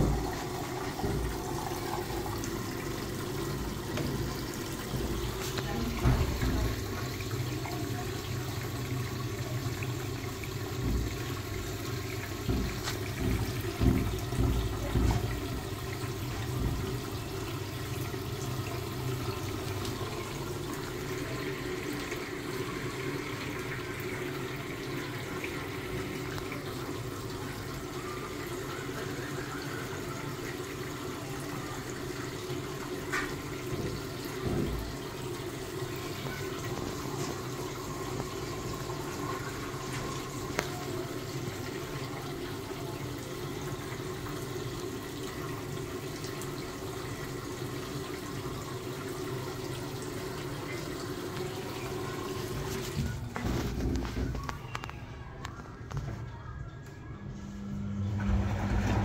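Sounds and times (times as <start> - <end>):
water rushing into washing machine: 0.0 - 56.3, 57.4 - 59.0.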